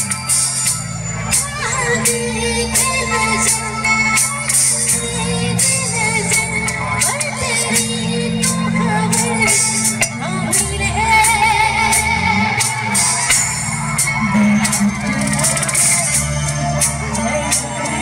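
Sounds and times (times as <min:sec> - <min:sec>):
amplified backing music: 0:00.0 - 0:18.0.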